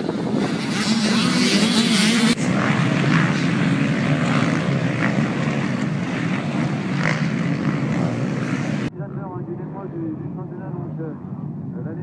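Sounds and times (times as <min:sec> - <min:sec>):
motocross bike engines: 0:00.0 - 0:12.0.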